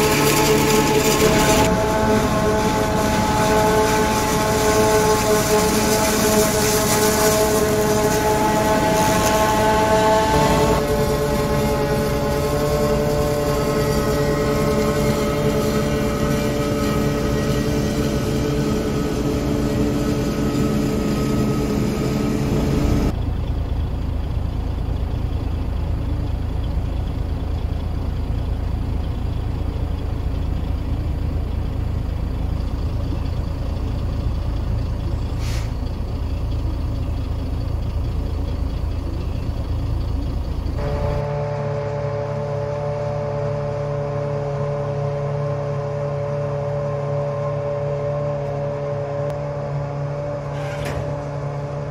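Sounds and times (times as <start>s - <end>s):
harvester droning whine: 0.0s - 51.9s
truck cab rumble: 0.0s - 51.9s.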